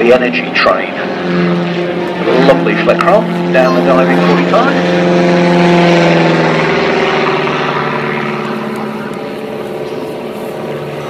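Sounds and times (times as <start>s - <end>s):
biplane engine and propeller: 0.0s - 11.0s.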